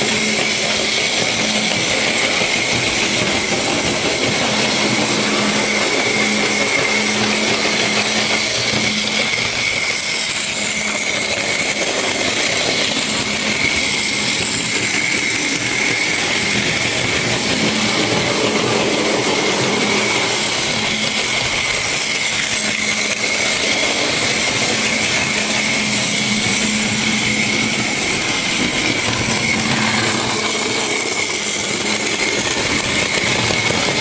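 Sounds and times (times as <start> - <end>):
model train motor whirring: 0.0 - 34.0
thin whine: 0.0 - 34.0.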